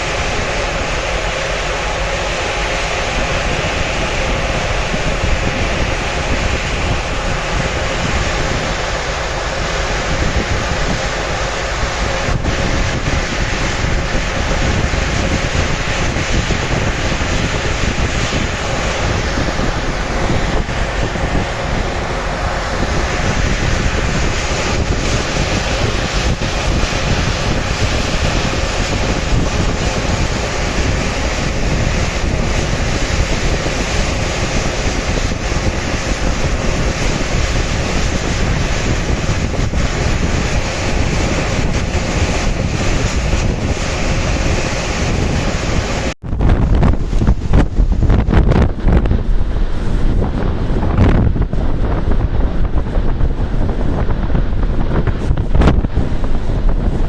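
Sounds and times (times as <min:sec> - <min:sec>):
sea waves rushing: 0:00.0 - 0:57.0
wind buffeting microphone: 0:00.0 - 0:57.0.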